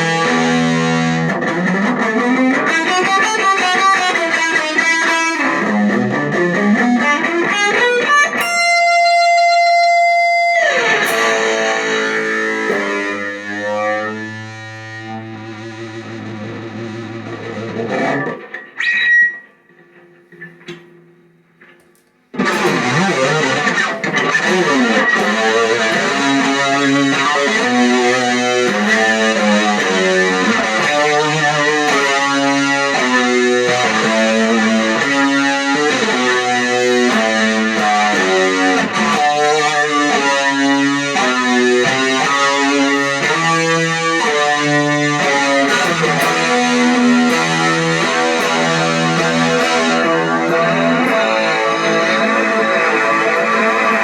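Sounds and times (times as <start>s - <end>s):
distorted electric guitar: 0.0s - 54.0s.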